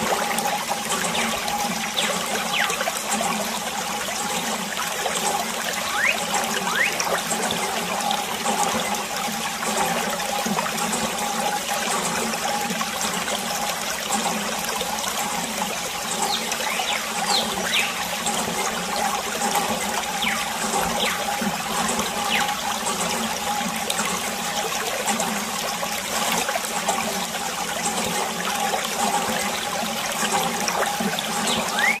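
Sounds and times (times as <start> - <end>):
water running and trickling: 0.0 - 32.0.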